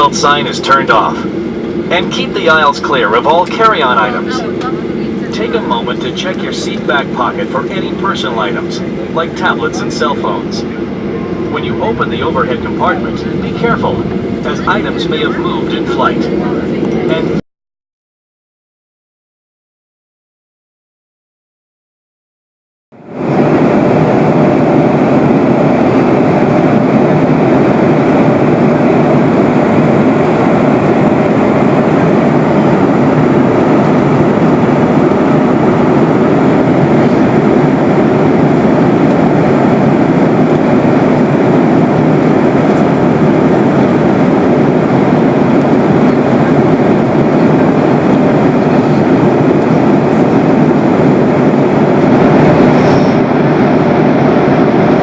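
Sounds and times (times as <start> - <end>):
airplane cabin engine drone: 0.0 - 17.4, 22.9 - 55.0.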